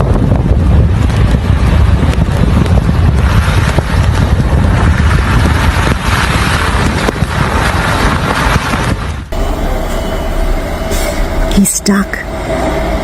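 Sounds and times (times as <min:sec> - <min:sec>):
blizzard wind on microphone: 0:00.0 - 0:13.0.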